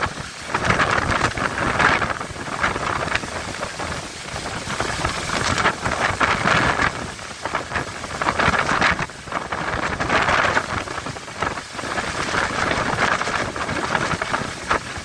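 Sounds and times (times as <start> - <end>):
rain: 0.0 - 15.0
wind rumbling on microphone: 0.0 - 15.0.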